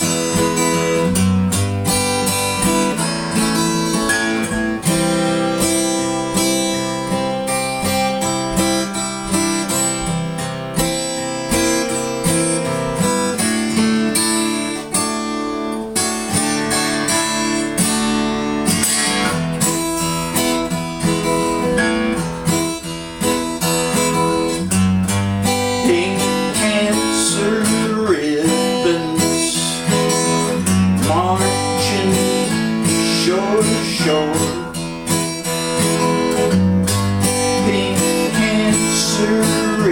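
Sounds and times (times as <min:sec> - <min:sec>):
strummed acoustic guitar: 0:00.0 - 0:39.9.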